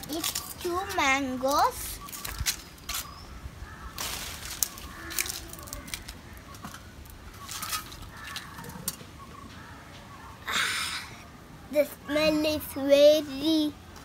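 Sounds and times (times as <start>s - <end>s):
tree leaves rustling: 0.0s - 14.0s.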